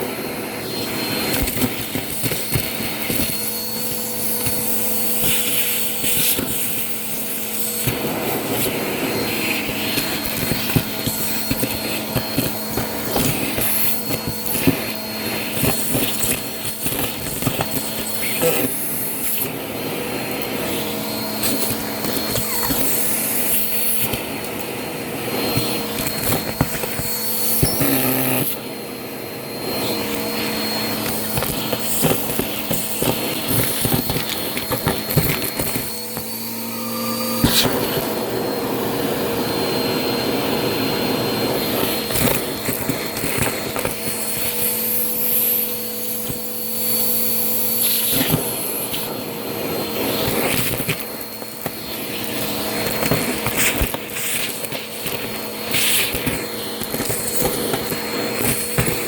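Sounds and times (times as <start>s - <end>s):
vacuum cleaner running: 0.0s - 59.0s
debris crackling in vacuum: 0.1s - 59.0s.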